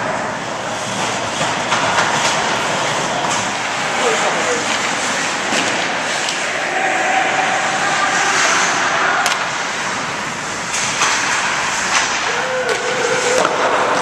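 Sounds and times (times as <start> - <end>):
skates scraping ice: 0.6 - 14.0
sticks and puck clacking: 0.8 - 14.0.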